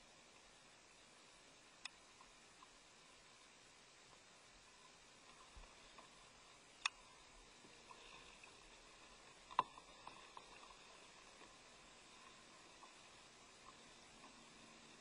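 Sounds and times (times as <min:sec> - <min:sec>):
faint light ticks: 0:00.1 - 0:15.0.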